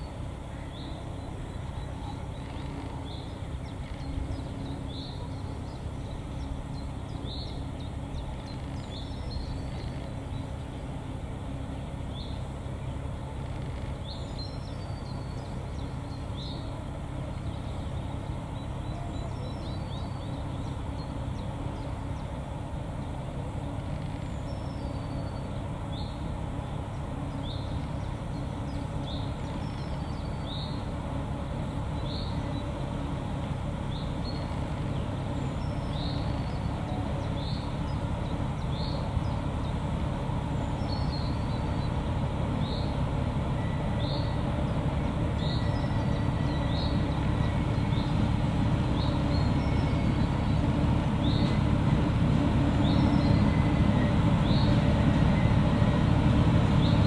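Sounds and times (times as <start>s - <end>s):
diesel locomotive running: 0.0s - 57.0s.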